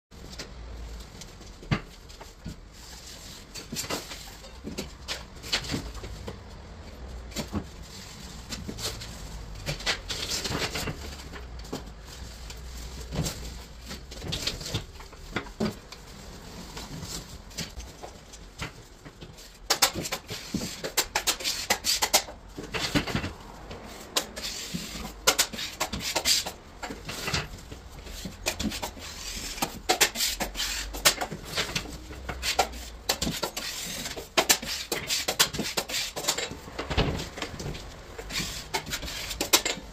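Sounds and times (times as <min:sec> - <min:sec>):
drywall tool scraping: 0:07.3 - 0:39.9.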